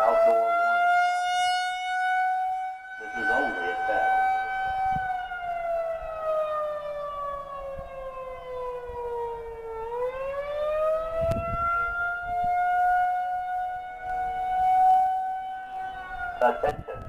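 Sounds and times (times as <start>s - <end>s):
warning siren wailing: 0.0s - 17.0s.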